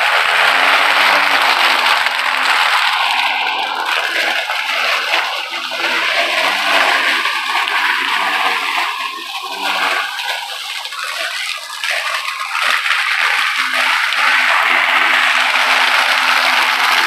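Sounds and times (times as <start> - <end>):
electric lawn mower running: 0.0 - 17.0.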